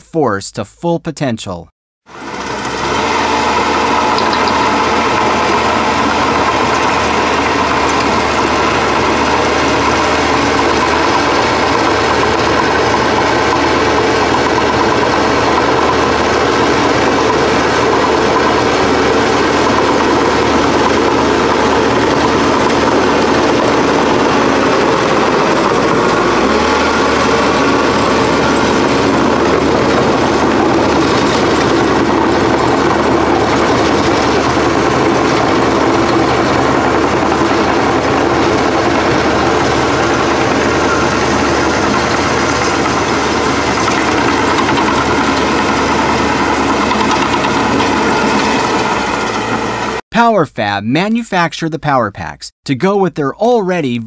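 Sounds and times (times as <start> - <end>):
small engine running: 2.1 - 50.0.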